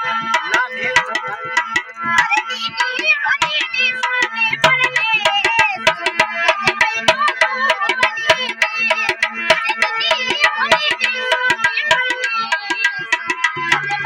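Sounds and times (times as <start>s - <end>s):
fast hand-drum beat: 0.0s - 14.0s.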